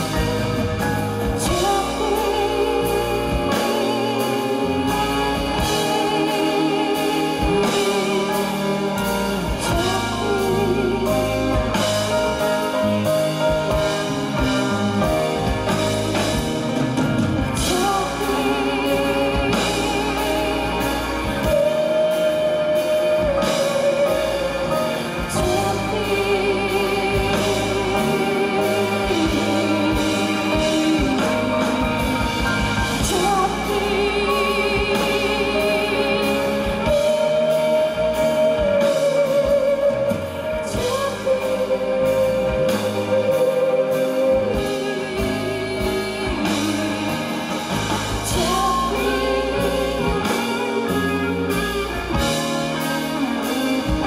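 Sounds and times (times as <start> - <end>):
instrumental accompaniment: 0.0 - 54.0
woman singing with vibrato: 0.0 - 54.0.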